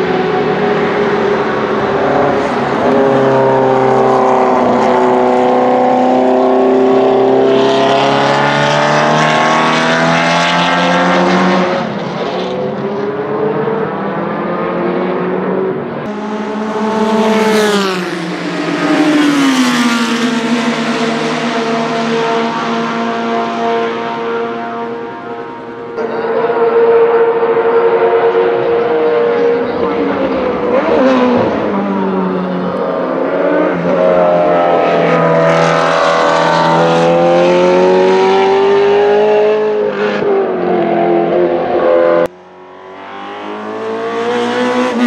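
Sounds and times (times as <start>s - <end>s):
race car engine accelerating: 0.0s - 45.0s
race car engine droning: 0.0s - 45.0s.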